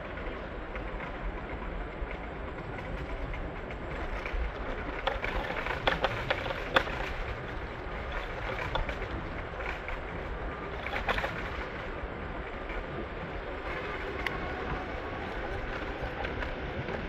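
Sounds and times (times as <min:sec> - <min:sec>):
rail clicks and clacks: 0:00.0 - 0:17.0
subway train rumbling on rails: 0:00.0 - 0:17.0.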